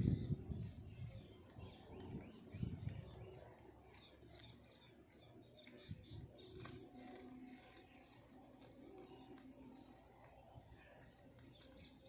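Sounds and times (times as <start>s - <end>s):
small birds chirping: 0.0s - 12.0s
cat chewing on a bone: 1.6s - 12.0s.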